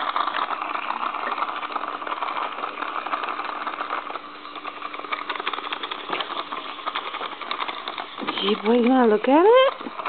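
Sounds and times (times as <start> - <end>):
toy hamster wheel whirring and clicking: 0.0 - 10.0.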